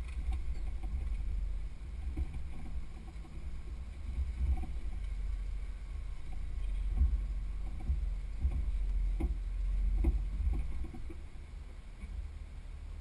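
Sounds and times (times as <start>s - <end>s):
knocks and clunks: 0.0s - 5.4s, 6.1s - 11.4s
low muffled engine rumble: 0.0s - 13.0s.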